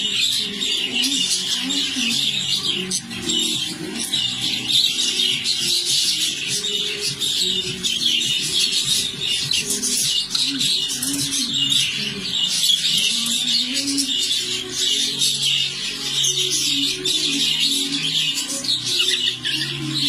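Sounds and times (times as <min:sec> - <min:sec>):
flock of budgerigars chattering: 0:00.0 - 0:20.0.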